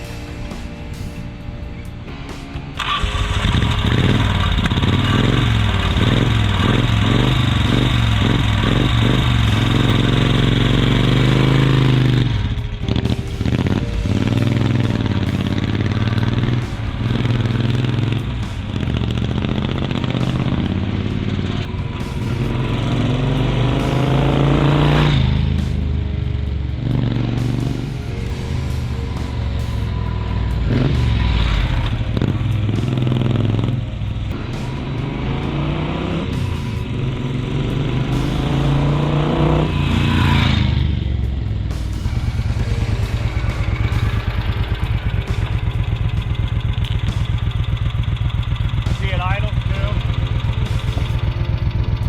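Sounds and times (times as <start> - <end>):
motorcycle engine starting and revving: 0.0 - 52.0.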